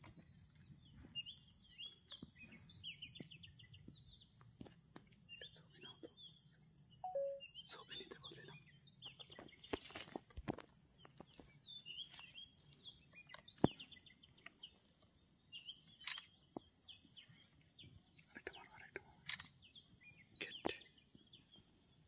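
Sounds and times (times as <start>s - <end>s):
birds chirping: 0.0s - 10.2s, 10.9s - 22.0s.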